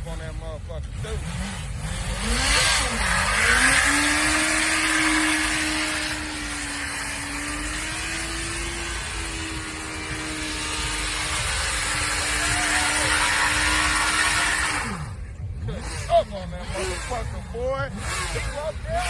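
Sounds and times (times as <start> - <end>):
motorcycle engine: 0.0 - 19.0.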